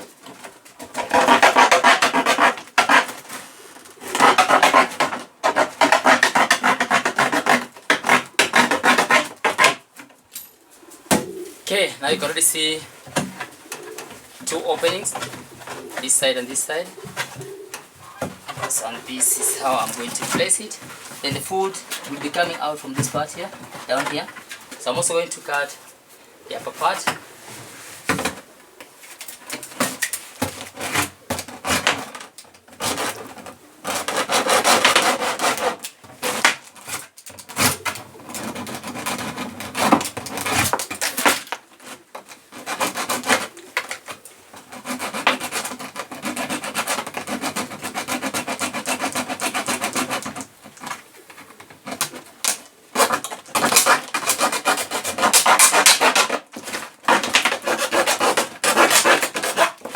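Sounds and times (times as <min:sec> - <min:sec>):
blade sawing through plastic: 0:00.2 - 0:10.0, 0:12.1 - 0:25.6, 0:29.5 - 0:59.9.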